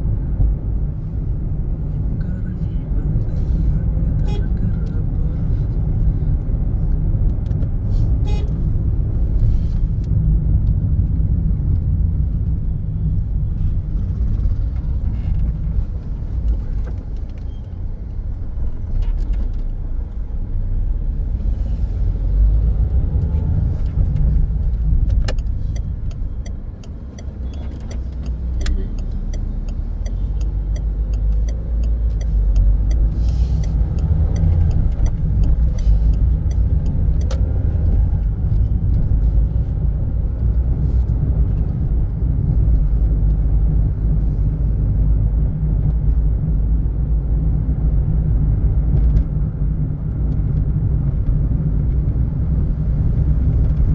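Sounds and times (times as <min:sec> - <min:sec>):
road vehicle low rumble: 0:00.0 - 0:53.9.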